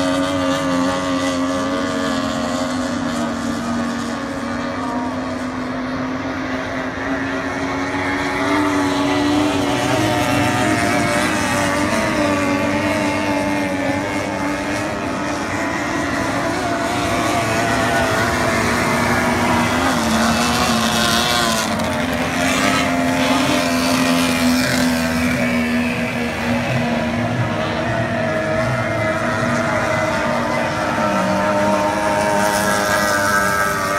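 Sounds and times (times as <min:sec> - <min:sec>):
racing outboard engines: 0:00.0 - 0:33.9.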